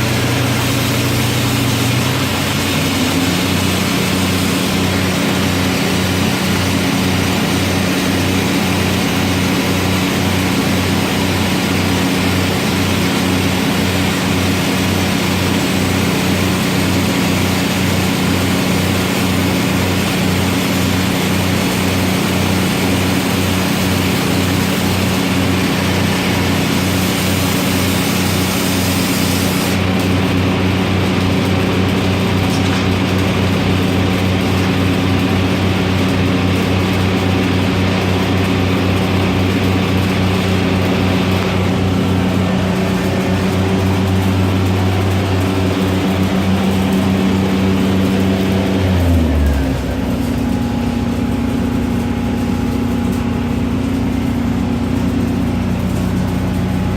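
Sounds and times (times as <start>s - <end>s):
welding machine engine running: 0.0s - 56.9s.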